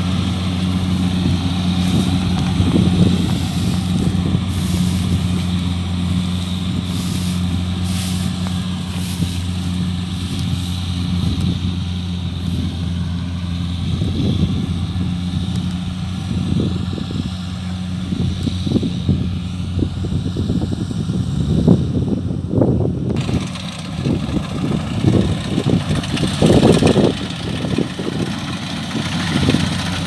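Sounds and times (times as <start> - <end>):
combine harvester engine droning: 0.0 - 30.0.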